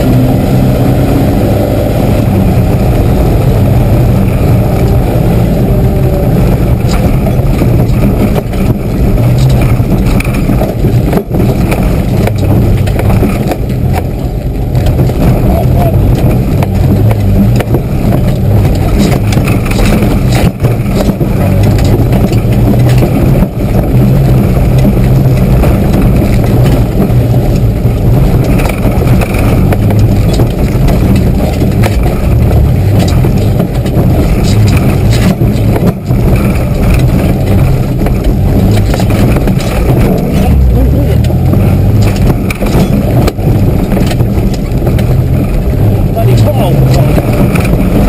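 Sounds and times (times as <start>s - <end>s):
car engine working hard: 0.0s - 48.0s.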